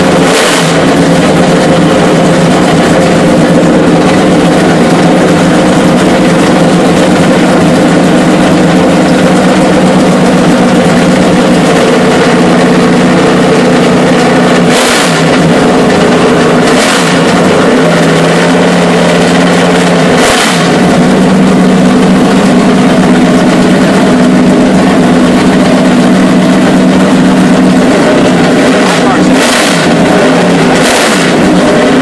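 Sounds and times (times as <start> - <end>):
engine blips: 0.0 - 32.0
loud car engine running: 0.0 - 32.0.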